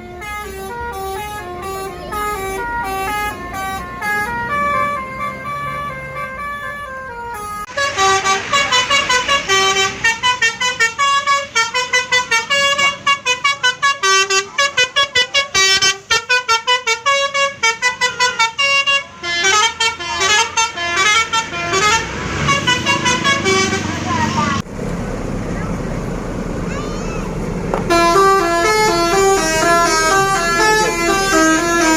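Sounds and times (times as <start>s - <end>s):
bus horn playing melody: 0.0s - 24.6s, 27.8s - 31.9s.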